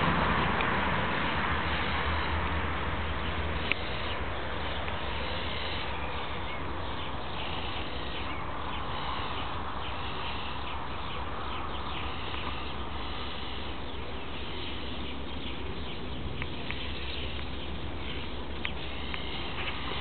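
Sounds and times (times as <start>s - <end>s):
low rumble and hiss: 0.0s - 20.0s.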